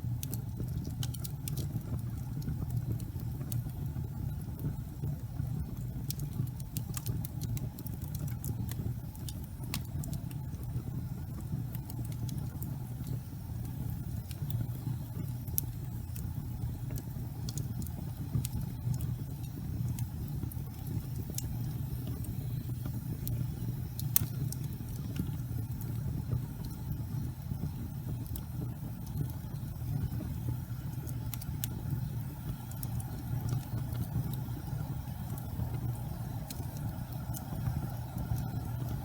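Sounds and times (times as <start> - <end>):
fire crackling and popping: 0.0 - 39.0
low rumble of flame: 0.0 - 39.0.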